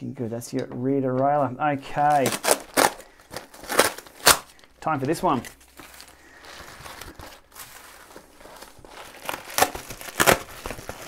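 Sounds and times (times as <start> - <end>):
foil packaging crinkling: 2.0 - 11.0.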